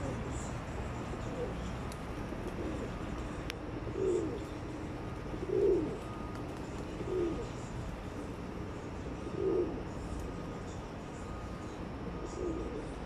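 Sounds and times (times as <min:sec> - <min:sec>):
low background noise: 0:00.0 - 0:13.0
pigeons cooing: 0:00.0 - 0:13.0.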